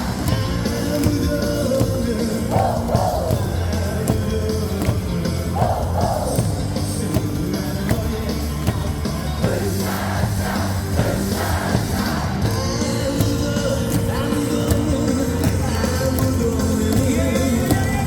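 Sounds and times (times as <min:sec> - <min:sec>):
crowd singing and shouting: 0:00.0 - 0:18.0
music over loudspeakers: 0:00.0 - 0:18.0.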